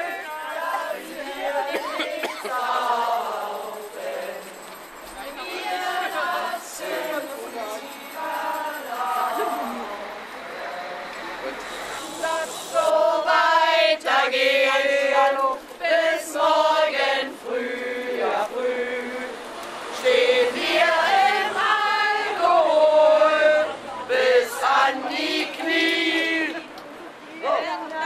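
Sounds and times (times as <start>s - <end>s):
group of voices singing: 0.0s - 26.8s.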